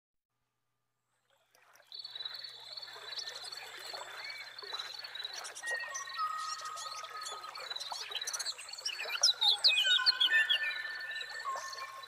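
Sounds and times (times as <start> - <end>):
frogs croaking: 1.6 - 12.0
bird chirps: 1.9 - 12.0.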